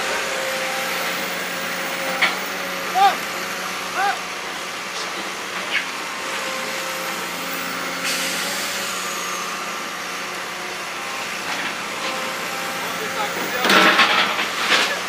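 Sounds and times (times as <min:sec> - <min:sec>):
diesel engine humming: 0:00.0 - 0:15.0
machinery whine: 0:00.0 - 0:15.0.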